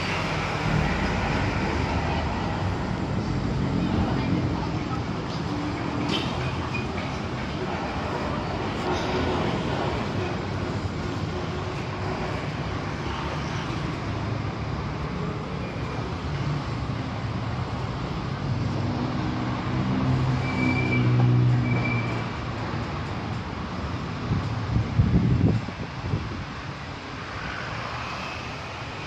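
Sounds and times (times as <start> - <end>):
street traffic: 0.0 - 29.0.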